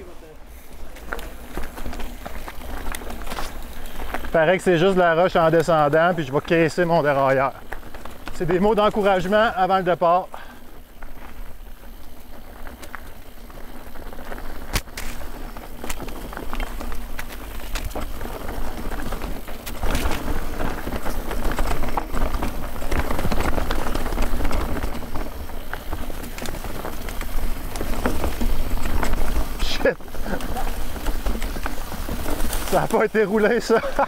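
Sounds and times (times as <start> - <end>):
tyres crunching over rock: 0.0 - 34.0
wind rumbling on microphone: 0.0 - 34.0
bike rattling clicks and knocks: 0.5 - 34.0.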